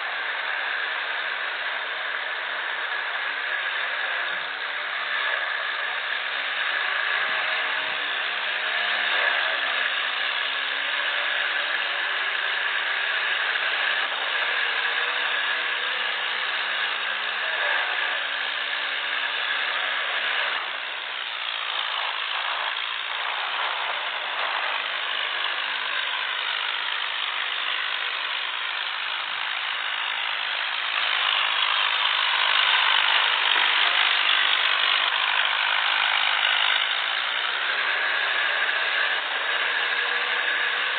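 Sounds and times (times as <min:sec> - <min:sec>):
diesel tractor engines under load: 0:00.0 - 0:40.9.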